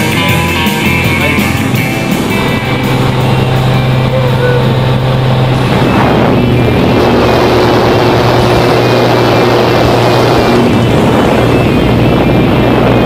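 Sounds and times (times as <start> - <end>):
propeller engine droning: 0.0 - 13.0
wind rushing: 0.8 - 13.0.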